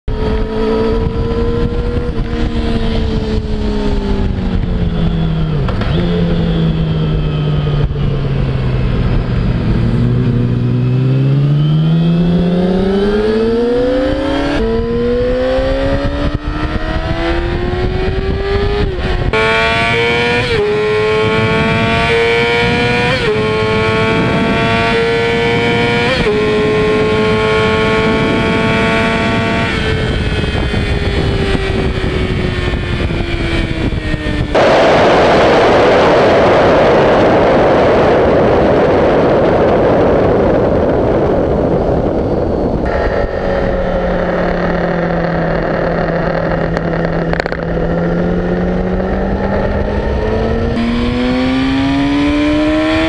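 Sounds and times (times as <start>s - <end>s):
motorcycle engine revving: 0.1s - 53.0s.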